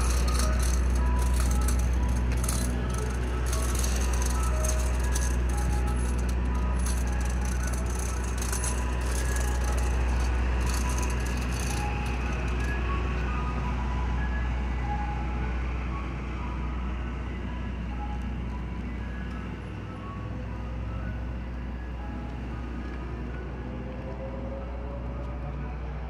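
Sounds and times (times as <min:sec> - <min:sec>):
truck engine humming: 0:00.0 - 0:26.0.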